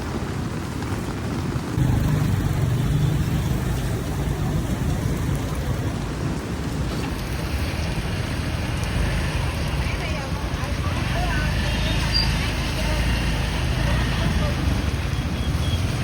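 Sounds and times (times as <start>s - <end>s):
heavy rain falling: 0.0s - 16.0s
street traffic passing: 0.0s - 16.0s
engine rumble: 1.6s - 16.0s.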